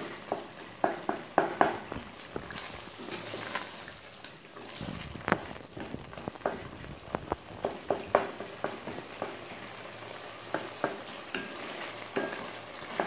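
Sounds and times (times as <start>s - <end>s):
spatula knocking and scraping pot: 0.0s - 3.7s, 4.6s - 9.7s, 10.4s - 13.0s
sizzle of frying in oil: 0.0s - 13.0s.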